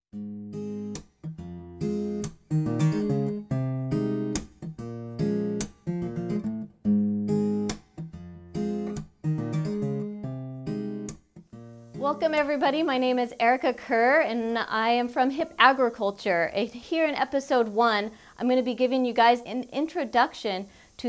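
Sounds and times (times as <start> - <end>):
acoustic guitar music: 0.1 - 19.0.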